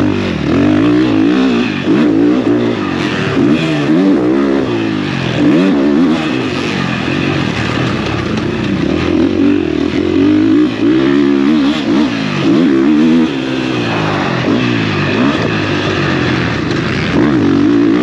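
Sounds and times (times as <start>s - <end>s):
motocross bike engine revving: 0.0s - 18.0s.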